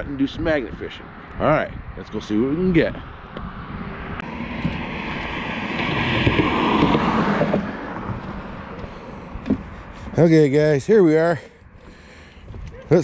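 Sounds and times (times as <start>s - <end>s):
vehicle passing on highway: 0.0s - 13.0s.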